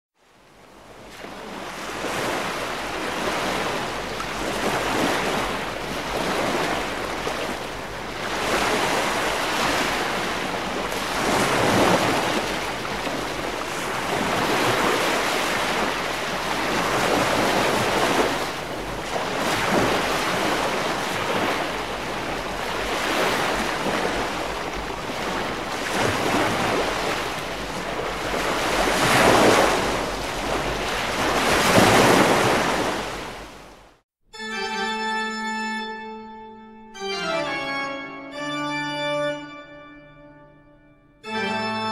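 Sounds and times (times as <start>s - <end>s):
sea waves breaking: 0.5s - 34.0s.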